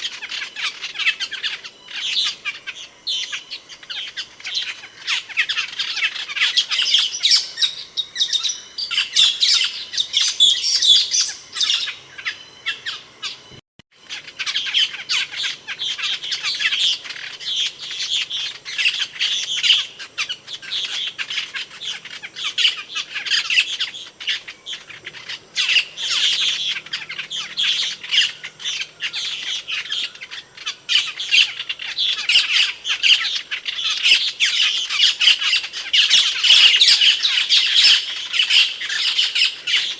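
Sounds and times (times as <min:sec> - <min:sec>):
starling chirping and squawking: 0:00.0 - 0:39.9.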